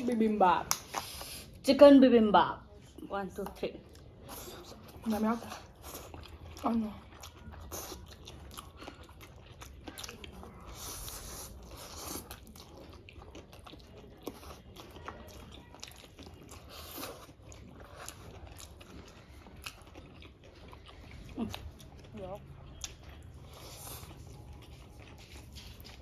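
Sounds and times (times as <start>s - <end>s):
crunchy chewing: 3.9s - 26.0s.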